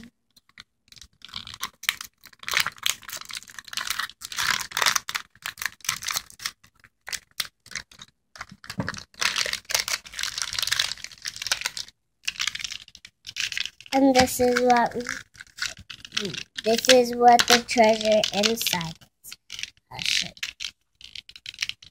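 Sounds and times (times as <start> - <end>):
plastic packaging crinkling: 0.4 - 21.9.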